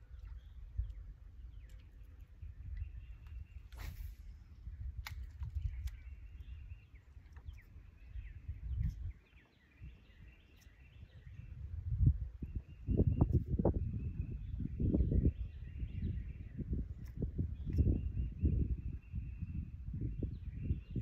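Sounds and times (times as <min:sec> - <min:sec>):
small birds chirping: 0:00.0 - 0:21.0
wind on microphone: 0:00.0 - 0:21.0.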